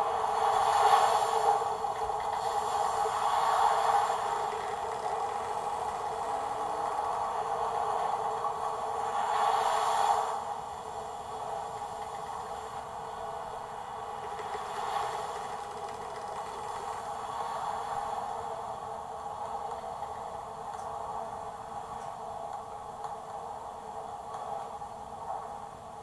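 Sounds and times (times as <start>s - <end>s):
wind and waves sound effect: 0.0s - 26.0s.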